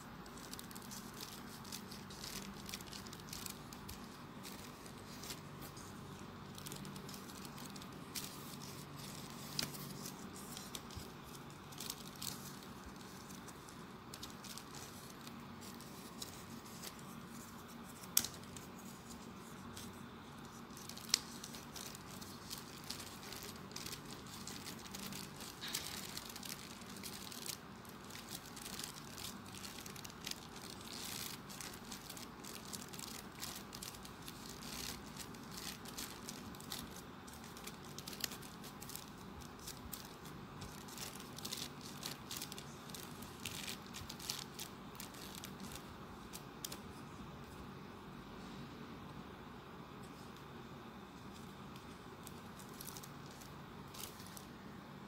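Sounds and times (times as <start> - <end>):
paper rustling and ticking: 0.0 - 47.1, 51.2 - 54.5.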